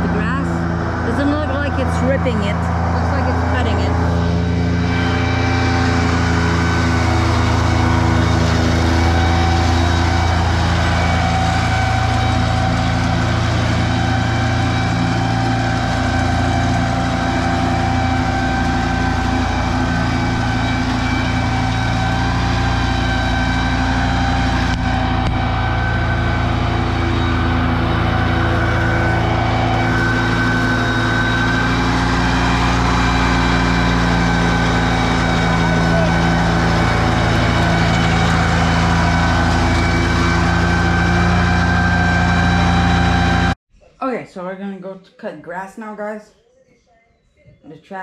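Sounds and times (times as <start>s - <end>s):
tractor engine running: 0.0s - 43.6s.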